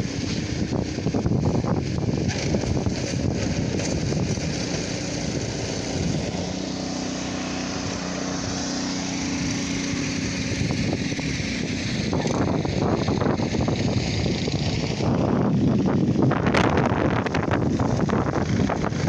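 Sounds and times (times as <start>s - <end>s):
small engine running: 0.0s - 19.0s
steady rush of noise: 0.0s - 19.0s.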